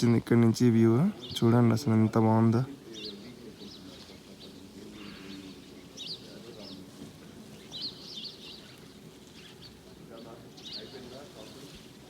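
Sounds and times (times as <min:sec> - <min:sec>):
faint low murmur: 0:00.0 - 0:12.0
small birds chirping: 0:00.0 - 0:12.0.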